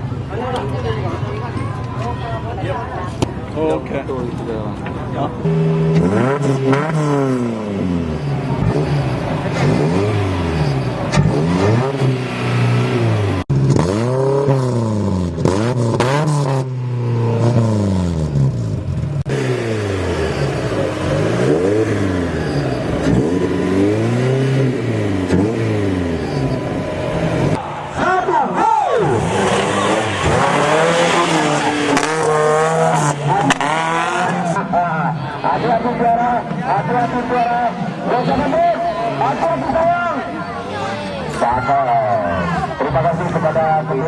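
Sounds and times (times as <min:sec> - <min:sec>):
off-road engine revving: 0:05.3 - 0:44.0.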